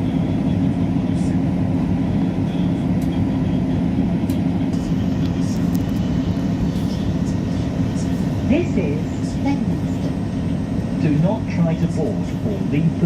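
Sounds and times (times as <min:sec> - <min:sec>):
train rumble and hum: 0:00.0 - 0:13.0.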